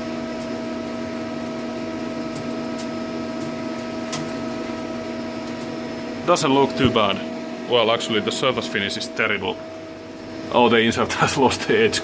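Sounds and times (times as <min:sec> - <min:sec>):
machine drives humming: 0:00.0 - 0:12.0.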